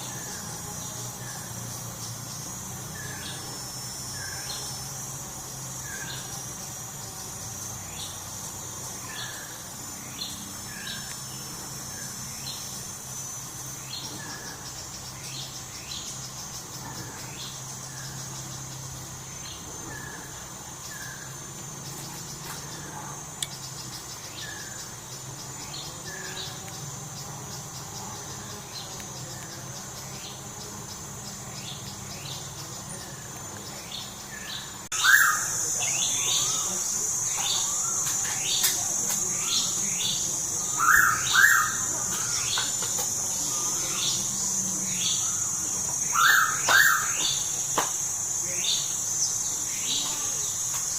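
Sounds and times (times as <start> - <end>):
high-pitched insect drone: 0.0 - 50.9
birds calling: 7.6 - 50.9.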